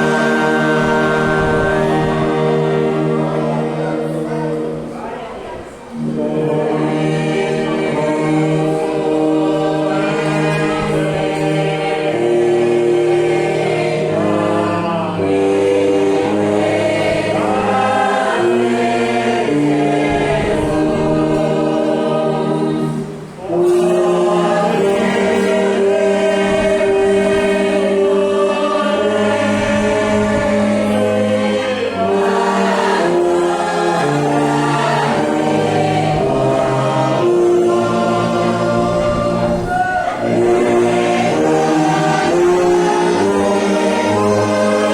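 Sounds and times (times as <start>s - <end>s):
congregation singing a hymn: 0.0s - 44.9s
orchestral accompaniment: 0.0s - 44.9s.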